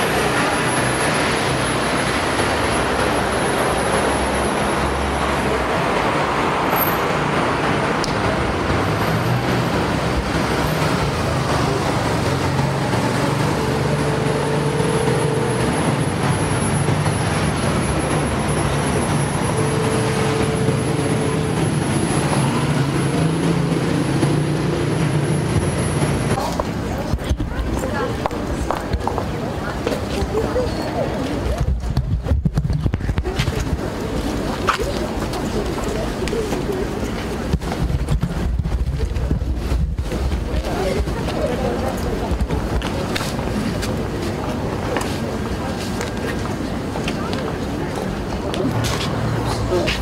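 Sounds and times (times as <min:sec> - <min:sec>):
road traffic passing: 0:00.0 - 0:50.0.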